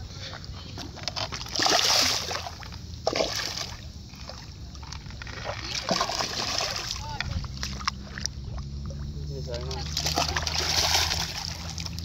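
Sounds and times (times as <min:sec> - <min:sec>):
fish splashing in water: 0:01.1 - 0:12.0.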